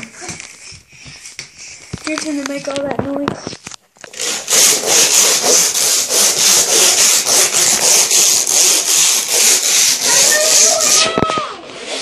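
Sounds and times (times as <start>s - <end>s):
toy car wheels rattling on plastic: 1.8s - 12.0s.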